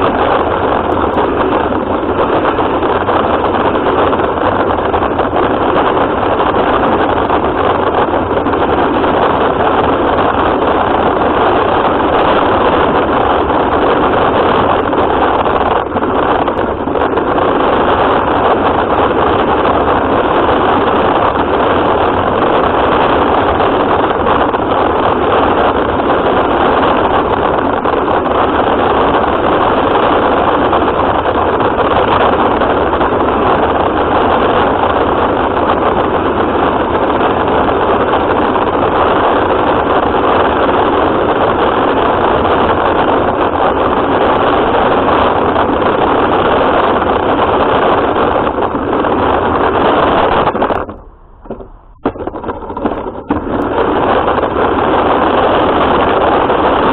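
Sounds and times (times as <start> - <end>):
rc car motor and tyres rushing: 0.0 - 56.9.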